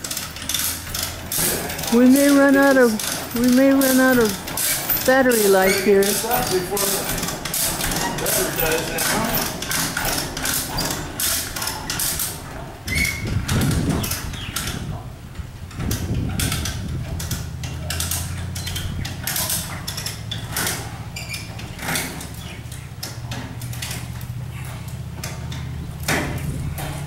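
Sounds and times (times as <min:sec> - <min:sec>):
load chain rattling: 0:00.0 - 0:14.8, 0:15.8 - 0:27.0
chain hoist pawl clicking: 0:00.0 - 0:14.9, 0:15.7 - 0:27.0.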